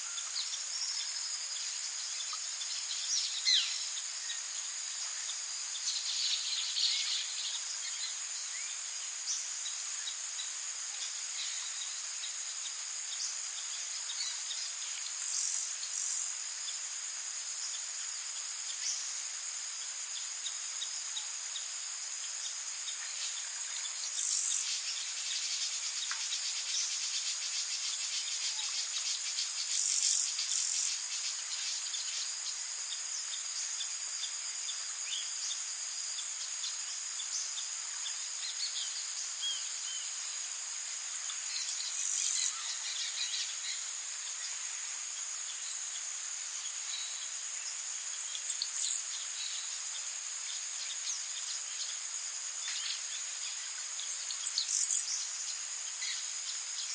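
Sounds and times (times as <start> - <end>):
crickets and insects chirping: 0.0 - 56.9.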